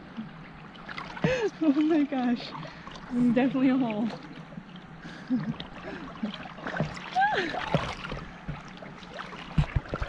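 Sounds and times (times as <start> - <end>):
river water sloshing and gurgling: 0.0 - 10.0.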